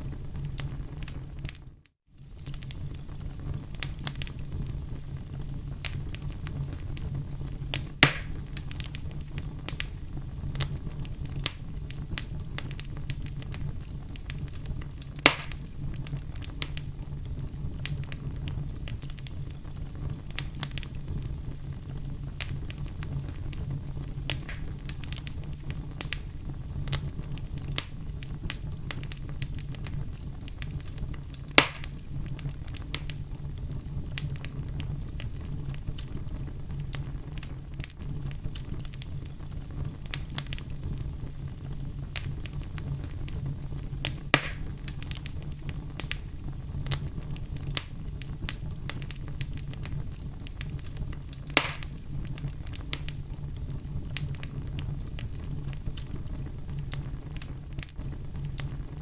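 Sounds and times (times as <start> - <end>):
loud fire pops: 0.0 - 59.0
wood fire crackling: 0.0 - 59.0.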